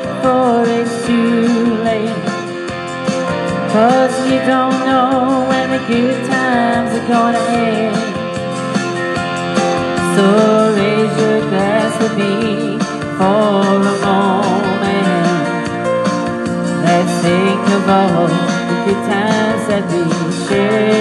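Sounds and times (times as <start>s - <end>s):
guitar and backing band: 0.0s - 21.0s
wavering melodic lead line: 0.0s - 21.0s.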